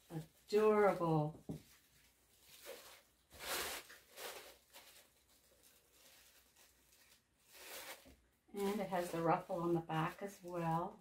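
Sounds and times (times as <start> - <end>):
tissue paper and cloth rustling: 0.0 - 11.0.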